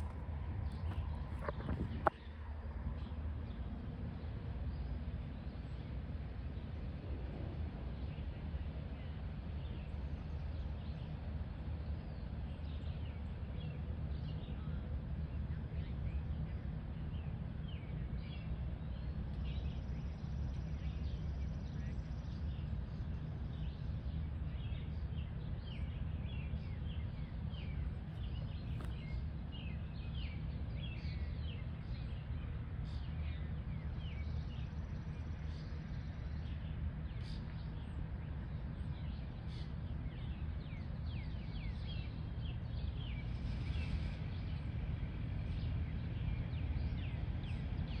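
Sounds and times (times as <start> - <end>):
steady low rumble: 0.0 - 48.0.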